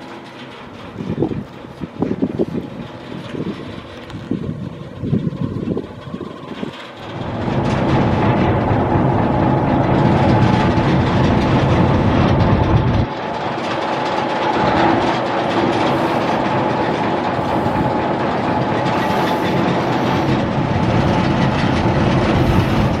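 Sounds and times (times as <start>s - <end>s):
gas engine running: 0.0s - 23.0s.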